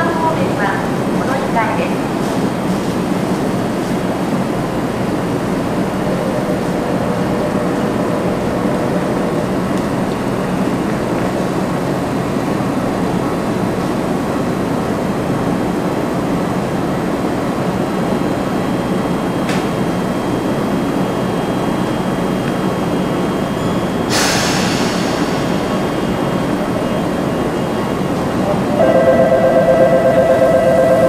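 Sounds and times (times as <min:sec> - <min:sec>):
electric train humming: 0:00.0 - 0:31.0.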